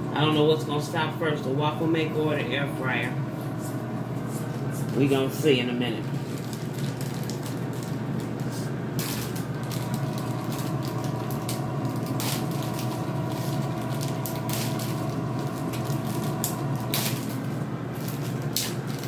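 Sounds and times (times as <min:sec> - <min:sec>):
air fryer fan humming: 0:00.0 - 0:19.0
fan whine: 0:00.0 - 0:19.0.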